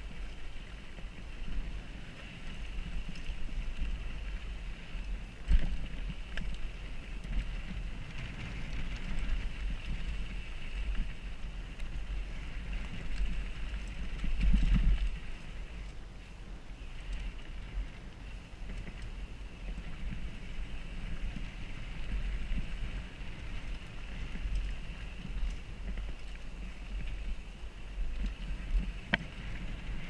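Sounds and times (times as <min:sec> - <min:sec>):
bike trail rumble: 0:00.0 - 0:30.0.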